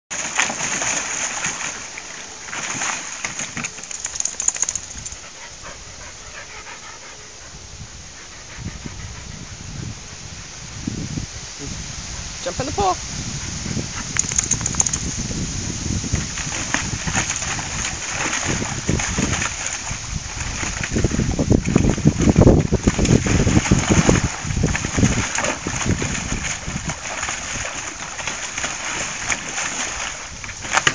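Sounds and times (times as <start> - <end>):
dog splashing in wading pool: 0.1 - 9.4, 12.4 - 30.9.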